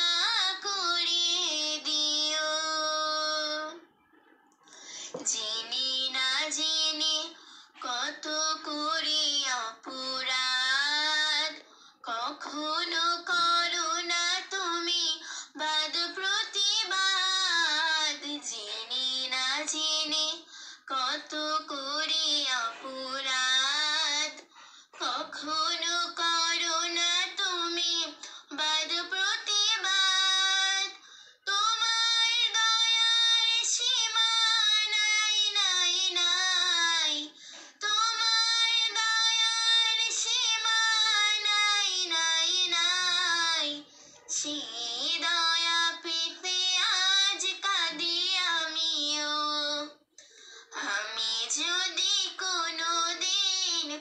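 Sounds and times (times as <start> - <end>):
girl singing unaccompanied: 0.0 - 4.0, 5.0 - 54.0.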